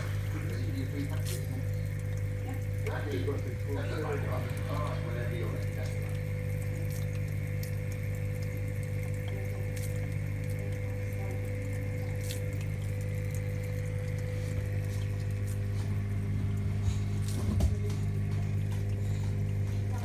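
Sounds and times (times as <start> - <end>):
faint fizzing ticks: 0.0 - 20.0
pump hum: 0.0 - 20.0.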